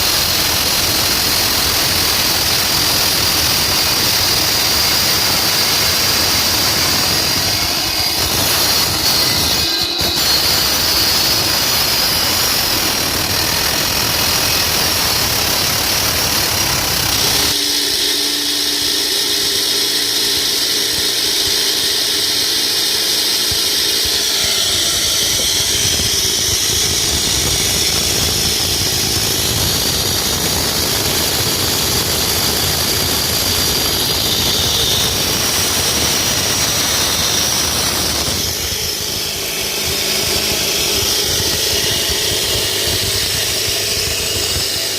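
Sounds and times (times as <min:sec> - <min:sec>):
concrete cutting machine: 0:00.0 - 0:44.9.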